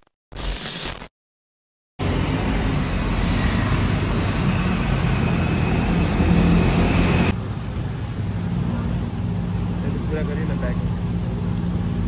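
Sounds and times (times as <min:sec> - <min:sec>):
road traffic: 0:02.0 - 0:12.0.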